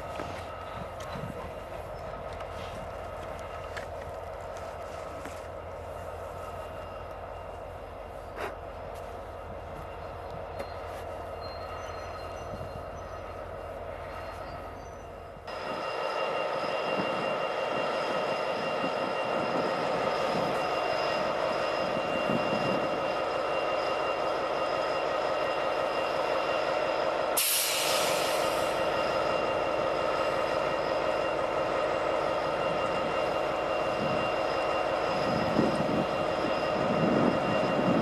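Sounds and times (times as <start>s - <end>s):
diesel train engine: 0.0s - 38.0s.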